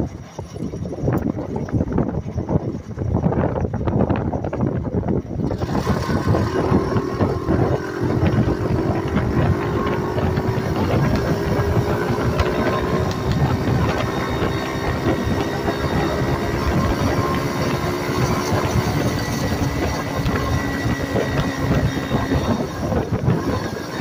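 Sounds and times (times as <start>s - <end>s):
small motorbike engine running: 0.0s - 24.0s.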